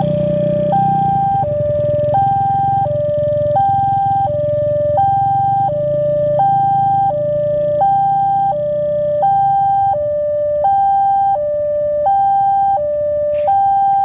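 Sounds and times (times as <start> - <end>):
level crossing two-tone alarm: 0.0 - 14.0.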